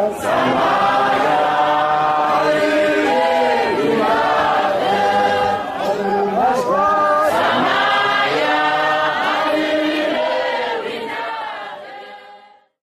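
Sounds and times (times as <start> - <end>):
choir singing: 0.0 - 12.8.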